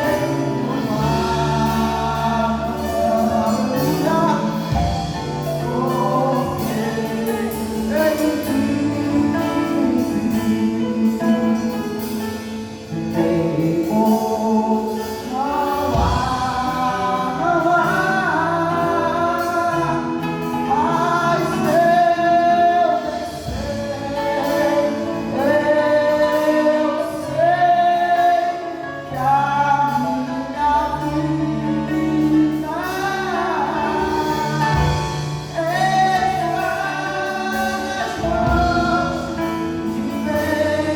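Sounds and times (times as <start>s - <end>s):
voices singing together: 0.0s - 11.8s, 13.6s - 40.9s
gospel band playing: 0.0s - 40.9s.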